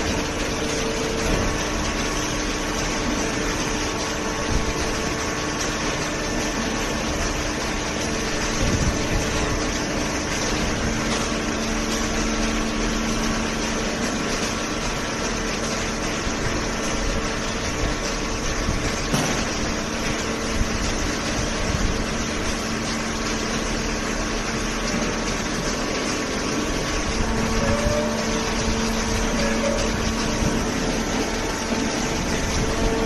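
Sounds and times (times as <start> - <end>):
baler mechanical hum: 0.0 - 33.0.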